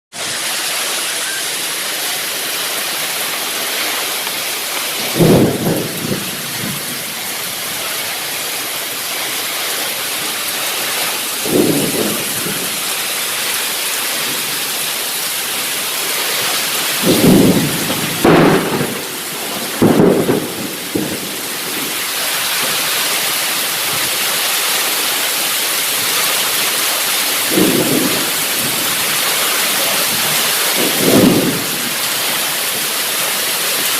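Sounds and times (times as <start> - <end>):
heavy rain pouring: 0.1 - 33.9
thunder claps: 1.0 - 24.2, 25.9 - 33.9.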